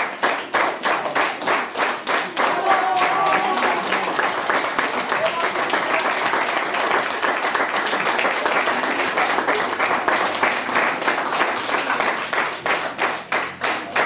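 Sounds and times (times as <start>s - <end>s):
audience applauding: 0.0s - 14.0s
rhythmic clapping in unison: 0.0s - 14.0s.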